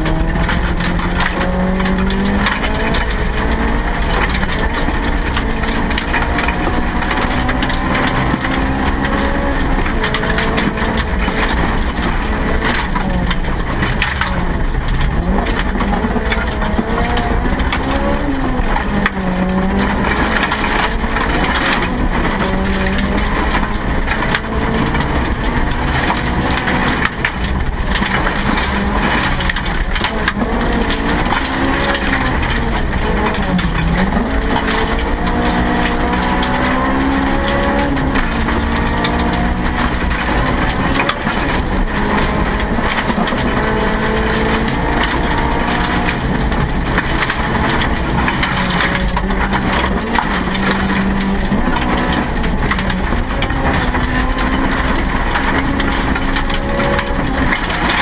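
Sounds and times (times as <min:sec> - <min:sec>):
car engine revving hard: 0:00.0 - 0:58.0
gravel rattling against underbody: 0:00.0 - 0:58.0.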